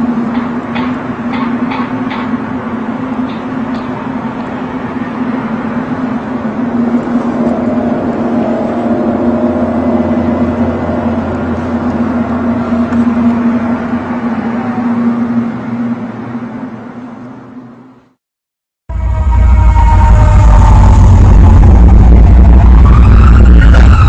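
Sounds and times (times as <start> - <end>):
low droning hum with held tones: 0.0 - 18.1, 18.9 - 24.0
noisy rumble: 0.0 - 18.2, 18.9 - 24.0.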